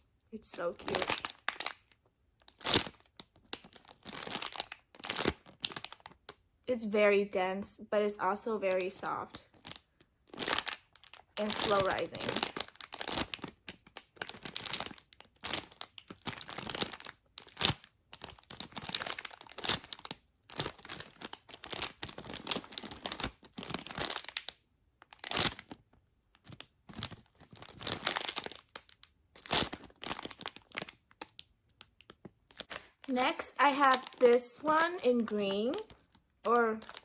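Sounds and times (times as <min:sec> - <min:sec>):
plastic packaging crinkling: 0:00.4 - 0:06.4, 0:08.6 - 0:37.0.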